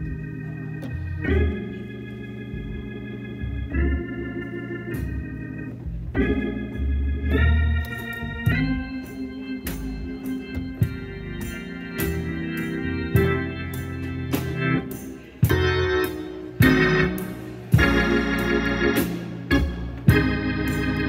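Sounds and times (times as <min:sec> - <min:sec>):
organ playing held chords: 0:00.0 - 0:21.0.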